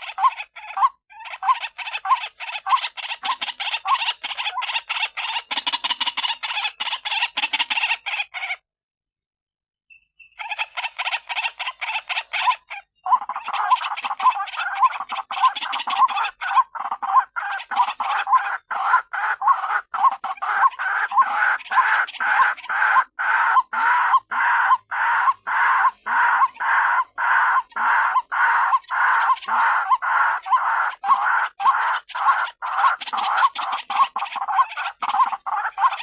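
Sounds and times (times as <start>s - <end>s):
waterhen harsh croaking call: 0.0s - 8.6s, 10.4s - 36.0s.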